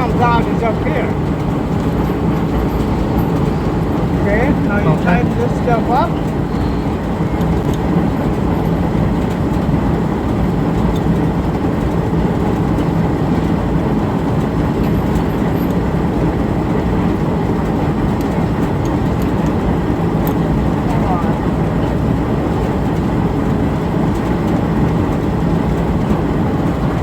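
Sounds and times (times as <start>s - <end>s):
mechanical rumble with low hum: 0.0s - 27.0s.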